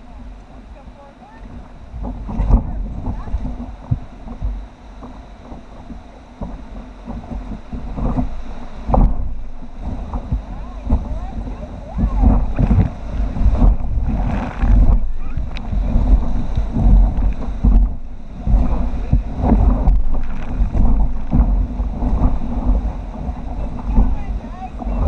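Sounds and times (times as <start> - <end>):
paddle strokes splashing: 0.0 - 25.0
whitewater rushing: 0.0 - 25.0
wind buffeting microphone: 0.0 - 25.0.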